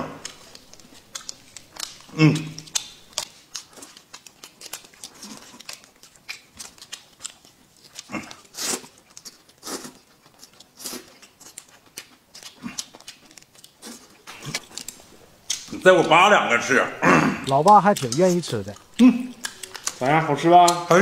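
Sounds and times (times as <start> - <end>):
noodles slurped and chewed: 0.0 - 16.2, 17.0 - 21.0.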